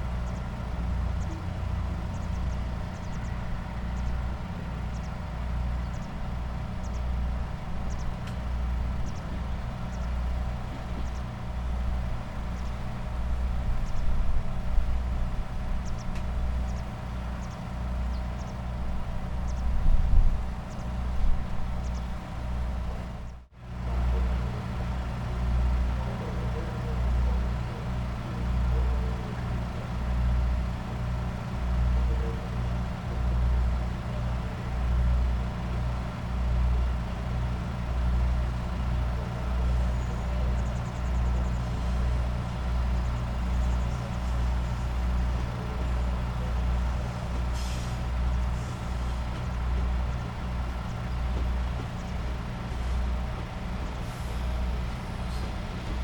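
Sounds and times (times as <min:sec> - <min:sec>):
diesel train engine idling: 0:00.0 - 0:56.0.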